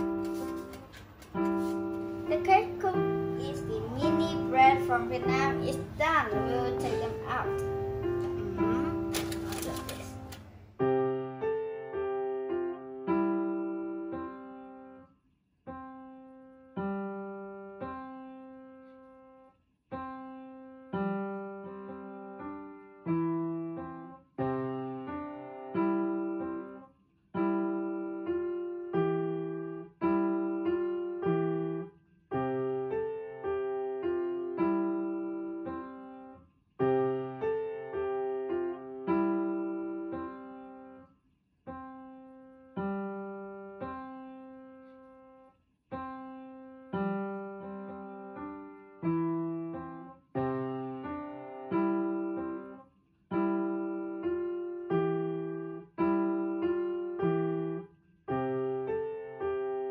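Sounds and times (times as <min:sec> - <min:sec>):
solo piano music: 0:00.0 - 0:15.1, 0:15.7 - 0:41.0, 0:41.7 - 0:59.9.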